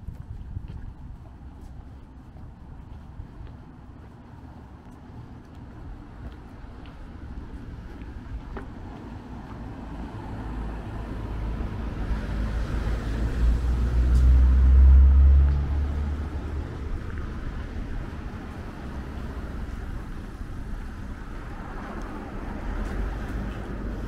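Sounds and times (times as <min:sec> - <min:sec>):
vehicle engine rumble passing: 0:00.0 - 0:24.0.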